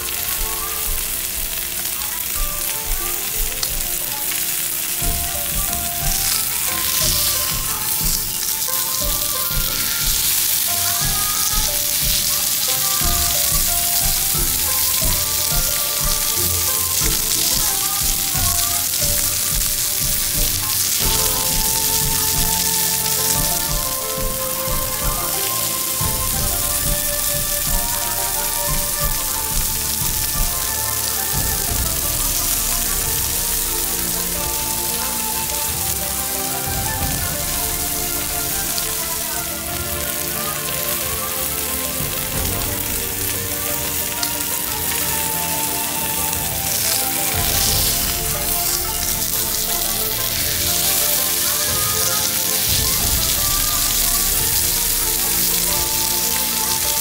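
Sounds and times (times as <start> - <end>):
food sizzling in a hot pan: 0.0 - 57.0
light background music: 0.0 - 57.0.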